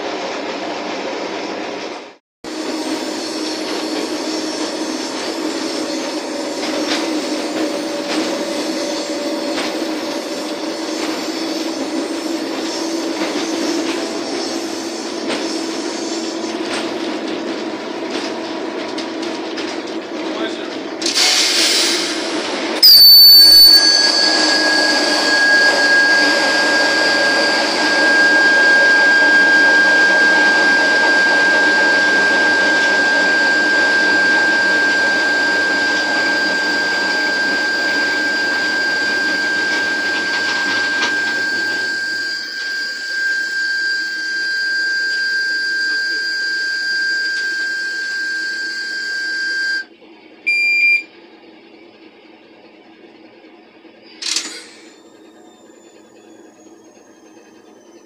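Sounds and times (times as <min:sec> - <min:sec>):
low rumble of running train: 0:00.0 - 0:22.8, 0:23.8 - 0:58.0.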